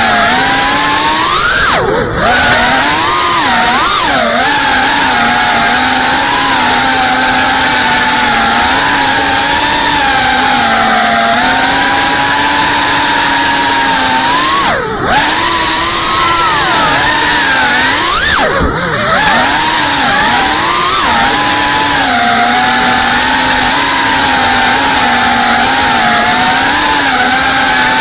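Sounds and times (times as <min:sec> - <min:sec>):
drone motors and propellers whining: 0:00.0 - 0:28.0.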